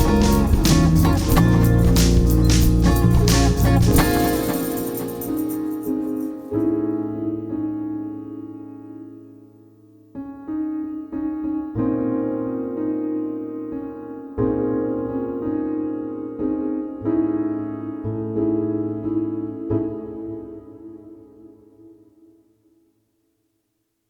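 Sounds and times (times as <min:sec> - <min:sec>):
slow piano chords: 0:00.0 - 0:22.6.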